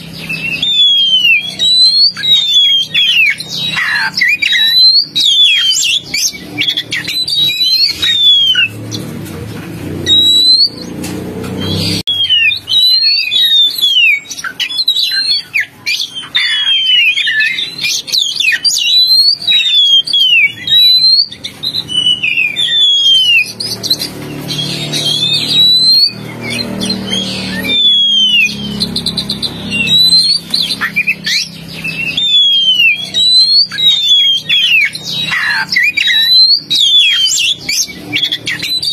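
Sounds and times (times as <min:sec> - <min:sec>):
bird whistled song: 0:00.0 - 0:09.1, 0:09.9 - 0:38.9.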